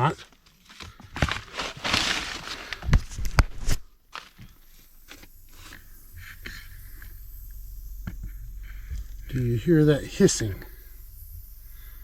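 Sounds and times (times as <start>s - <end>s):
refrigerant leaking hiss: 0.8s - 12.0s.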